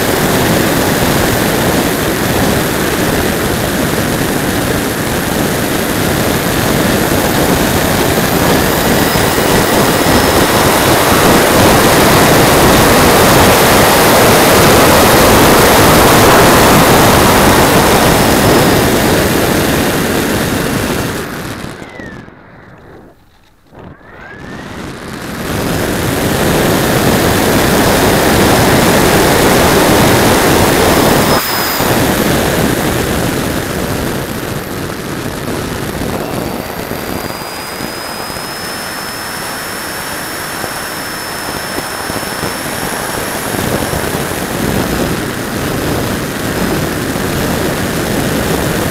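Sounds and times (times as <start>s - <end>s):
electric motor whine: 0.0s - 48.9s.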